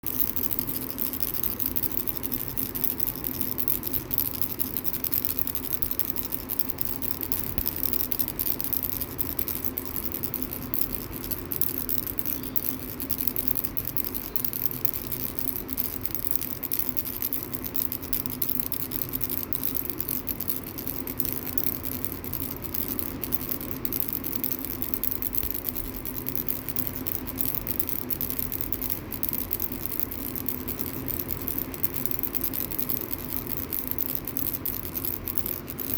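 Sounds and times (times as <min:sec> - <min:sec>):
baby rattle shaking: 0:00.0 - 0:35.9.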